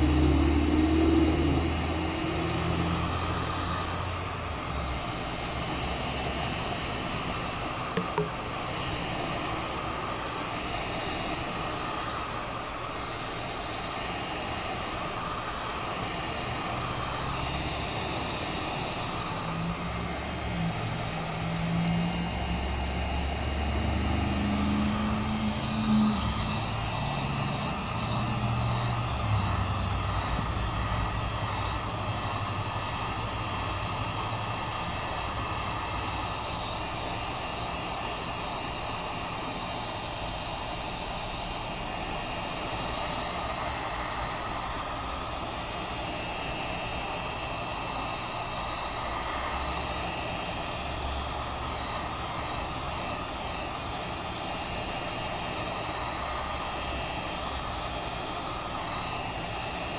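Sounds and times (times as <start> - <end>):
heat gun fan whirring: 0.0 - 59.9.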